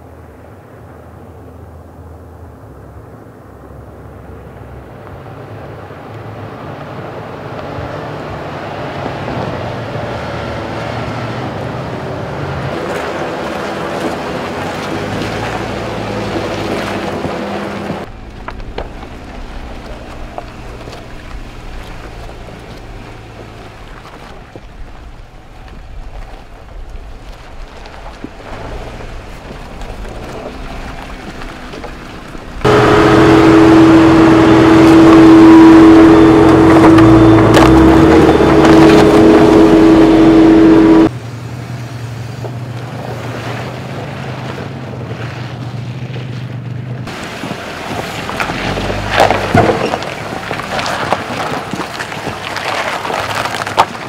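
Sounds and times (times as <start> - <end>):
vehicle engines running slowly: 0.0 - 54.0
loud engine with whine: 2.3 - 27.0, 28.4 - 51.7.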